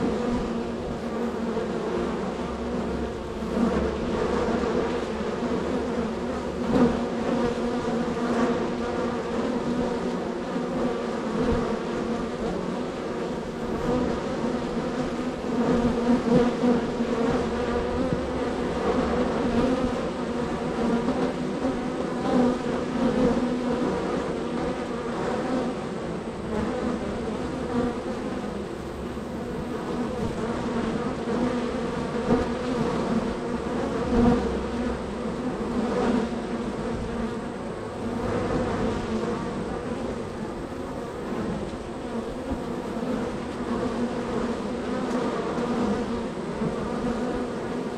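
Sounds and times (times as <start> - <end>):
bees buzzing: 0.0 - 47.9
single bee passing close: 0.0 - 47.9.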